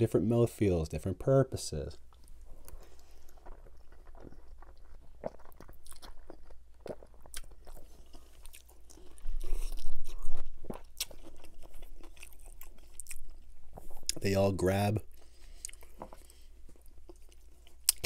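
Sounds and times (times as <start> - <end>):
man chewing with wet smacks: 1.9 - 14.3, 15.1 - 18.0.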